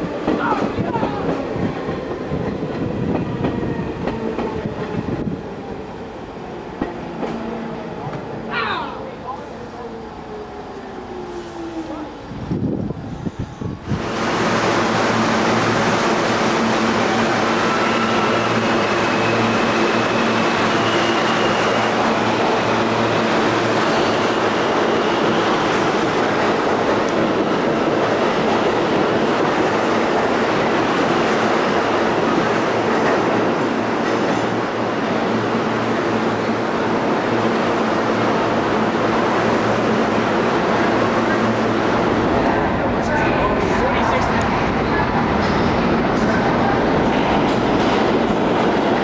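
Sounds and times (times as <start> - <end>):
subway train wheels rumbling: 0.0 - 49.0.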